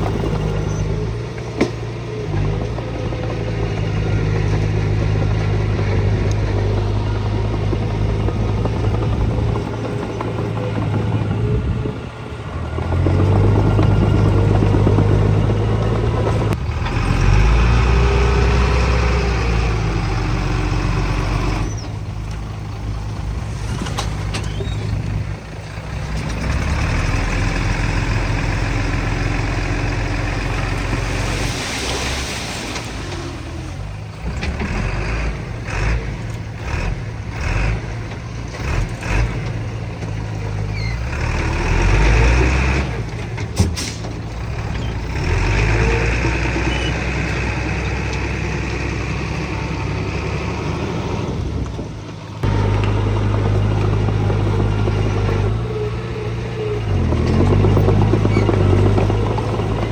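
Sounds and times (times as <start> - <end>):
diesel machinery engines running: 0.0 - 59.9.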